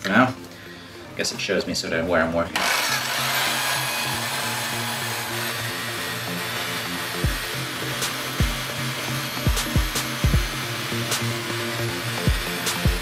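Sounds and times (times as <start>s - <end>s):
drill buffing wheel whirring: 2.6s - 13.0s.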